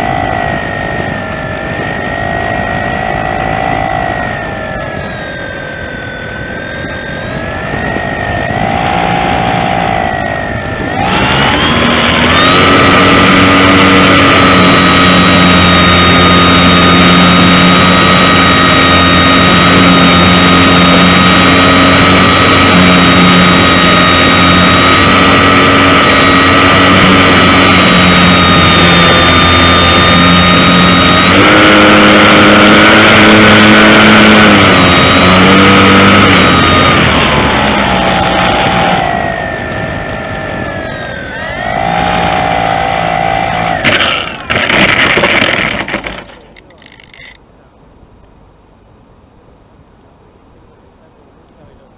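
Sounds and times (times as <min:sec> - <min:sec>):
electric motor and propeller whine: 0:00.0 - 0:47.7.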